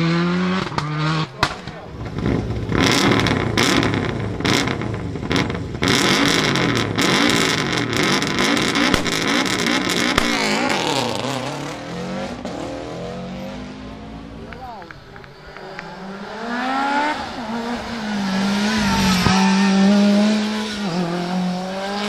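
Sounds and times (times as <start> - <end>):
car pulling away: 0.0 - 22.0
exhaust bangs: 0.0 - 22.0
rally car engine revving: 0.0 - 22.0.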